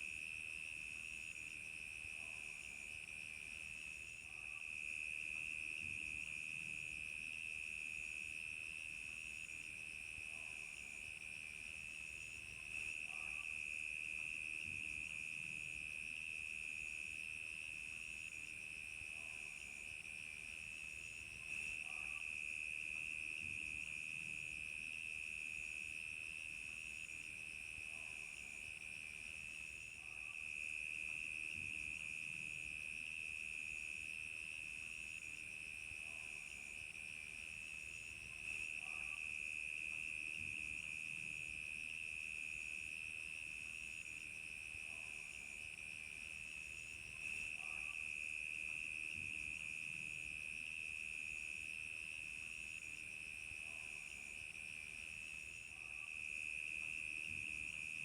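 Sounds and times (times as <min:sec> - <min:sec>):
crickets chirping: 0:00.1 - 0:58.0.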